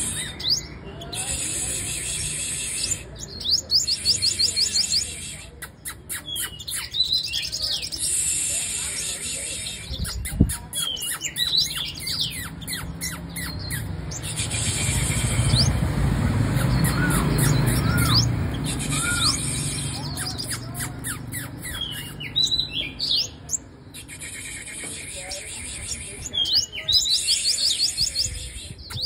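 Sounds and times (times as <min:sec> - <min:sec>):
sunbird singing: 0:00.0 - 0:29.0.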